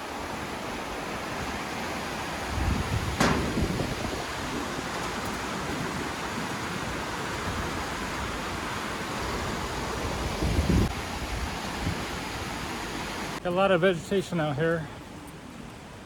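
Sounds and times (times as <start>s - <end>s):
river water rushing: 0.0s - 13.6s.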